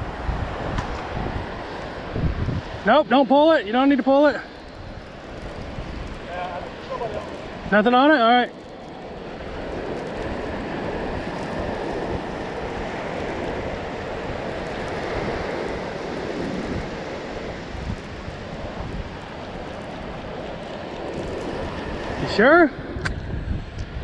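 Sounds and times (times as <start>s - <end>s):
surf washing on beach: 0.0s - 24.0s
wind buffeting microphone: 0.0s - 24.0s.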